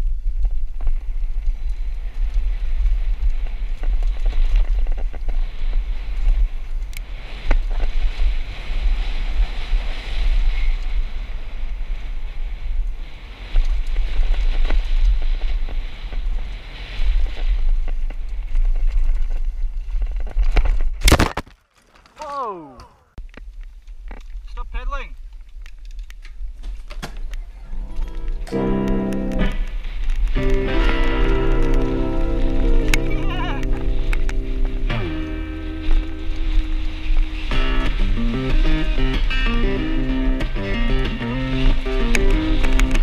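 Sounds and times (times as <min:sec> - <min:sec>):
wind buffeting microphone: 0:00.0 - 0:21.0, 0:25.2 - 0:43.0.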